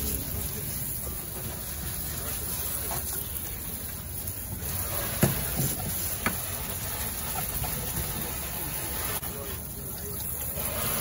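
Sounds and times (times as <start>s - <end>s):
tap water spraying: 0.0s - 11.0s.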